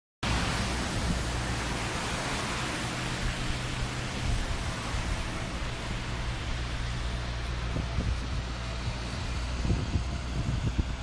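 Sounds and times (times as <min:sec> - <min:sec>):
excavator engine drone: 0:00.3 - 0:11.0.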